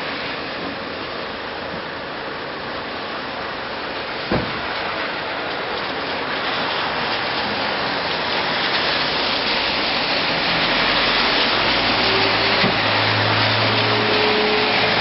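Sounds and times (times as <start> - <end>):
rain on wet street: 0.0 - 15.0.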